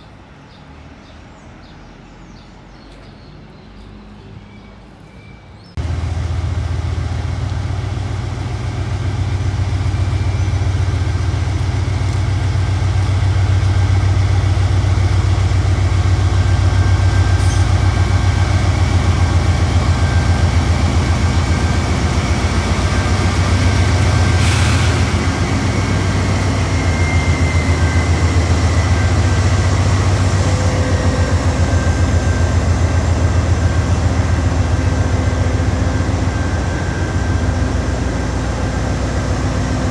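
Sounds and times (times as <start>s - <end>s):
freight train rumbling past: 5.7s - 39.9s.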